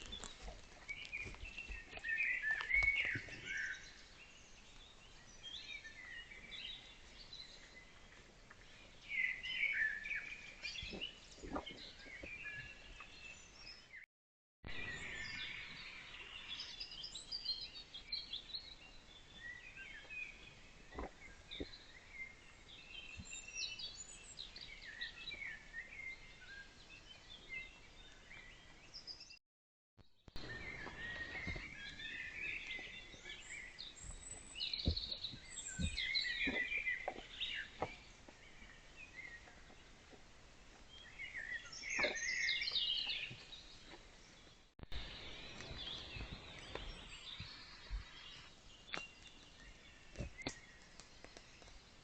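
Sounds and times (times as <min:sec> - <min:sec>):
songbirds singing: 0:00.0 - 0:14.0, 0:14.7 - 0:29.4, 0:30.0 - 0:52.0.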